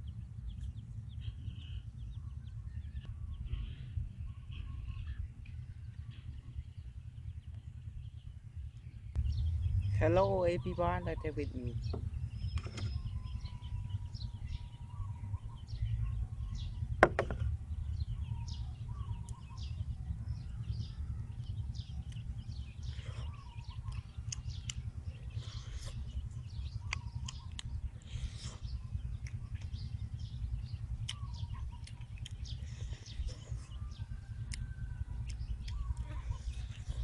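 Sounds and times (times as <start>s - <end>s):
small birds chirping: 0.0s - 37.0s
steady low rumble: 0.0s - 37.0s.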